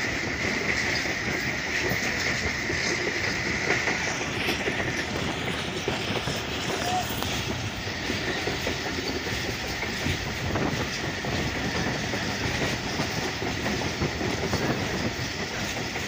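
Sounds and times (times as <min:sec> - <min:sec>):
train wheels rumbling and clattering: 0:00.0 - 0:16.0.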